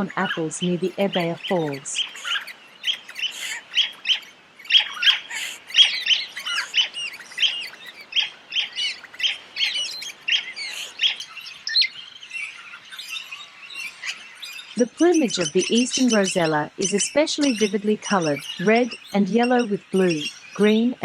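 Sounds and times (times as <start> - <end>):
parrots chirping: 0.0 - 21.0.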